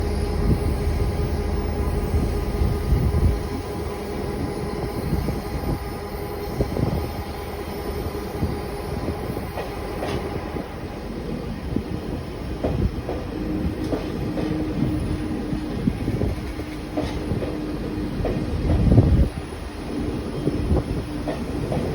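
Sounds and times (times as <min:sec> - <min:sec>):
train running rumble: 0:00.0 - 0:21.9.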